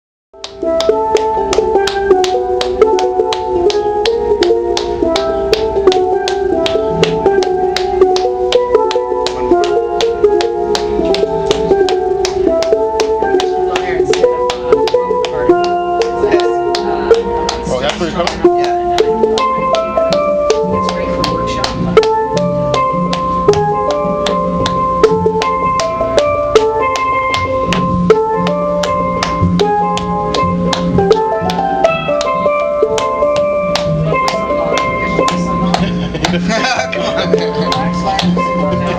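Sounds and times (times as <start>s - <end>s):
steady percussive beat: 0.4s - 38.9s
steel pan notes: 0.4s - 38.9s.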